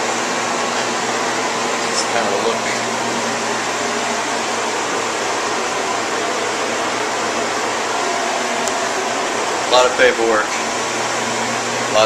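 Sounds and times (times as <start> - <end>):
rushing air from fan: 0.0 - 12.0.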